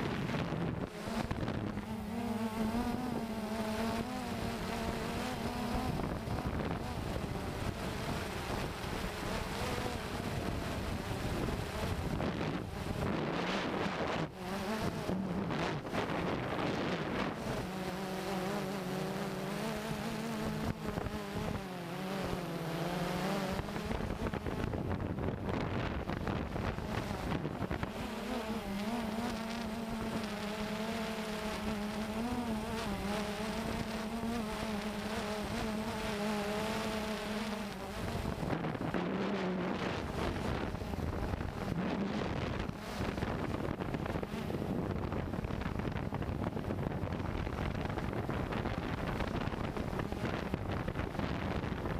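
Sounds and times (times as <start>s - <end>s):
drone propellers buzzing: 0.0s - 51.9s
wind on microphone: 0.0s - 51.9s.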